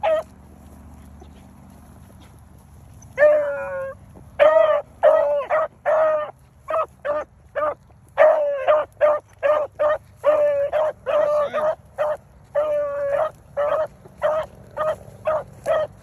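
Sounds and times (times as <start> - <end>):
hound baying and barking: 0.0 - 16.0.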